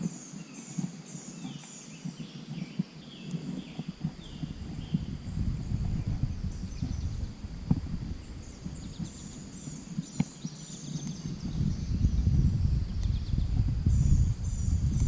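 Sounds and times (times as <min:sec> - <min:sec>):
birds chirping: 0:00.0 - 0:15.0
wind buffeting microphone: 0:00.9 - 0:15.0.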